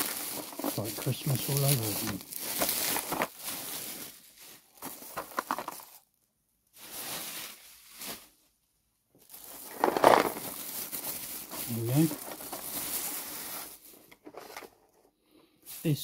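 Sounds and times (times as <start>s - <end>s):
bubble wrap crinkling: 0.0s - 8.4s, 9.2s - 14.6s.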